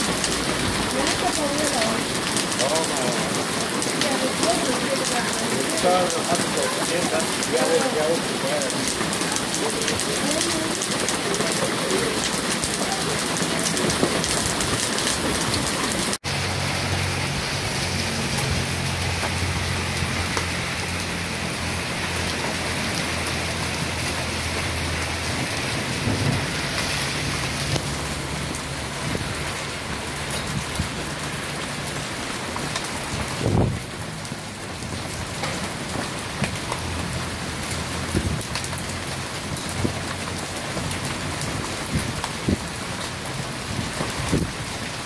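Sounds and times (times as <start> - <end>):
heavy rain splashing on street: 0.0 - 45.0.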